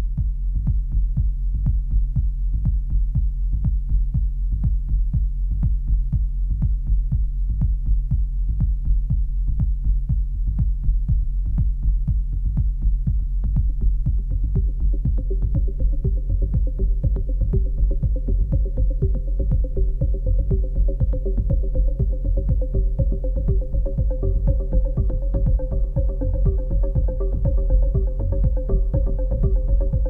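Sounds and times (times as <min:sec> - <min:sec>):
deep bass line: 0:00.0 - 0:30.0
fast drum machine pattern: 0:00.0 - 0:30.0.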